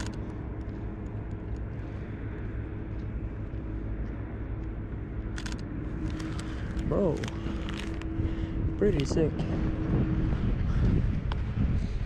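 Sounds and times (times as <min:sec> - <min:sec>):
faint hum: 0:00.0 - 0:12.0
low rumble of city traffic: 0:00.0 - 0:12.0.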